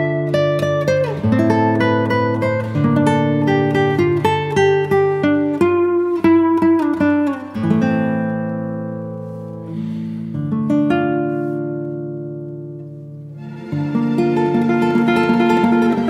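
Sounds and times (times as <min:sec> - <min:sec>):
acoustic guitar chords ringing: 0:00.0 - 0:16.0
acoustic guitar plucked notes: 0:00.0 - 0:16.0.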